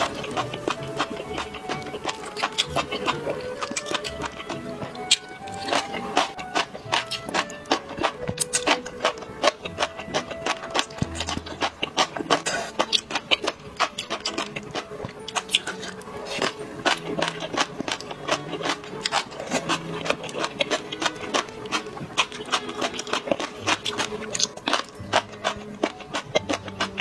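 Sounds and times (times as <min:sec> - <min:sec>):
chewing and slurping: 0:00.0 - 0:27.0
faint background music: 0:00.0 - 0:27.0.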